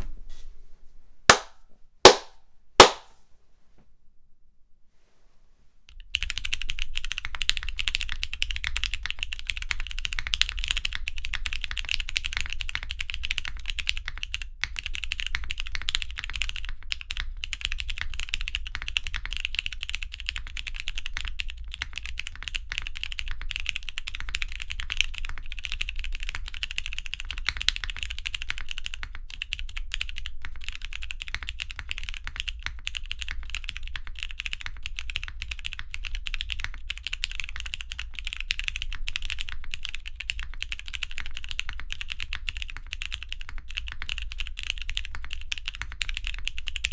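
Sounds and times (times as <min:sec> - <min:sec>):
mechanical keyboard typing: 0:06.2 - 0:46.9.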